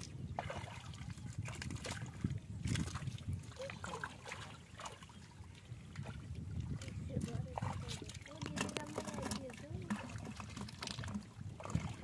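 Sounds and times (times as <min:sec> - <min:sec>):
mud squelching: 0:00.0 - 0:12.0.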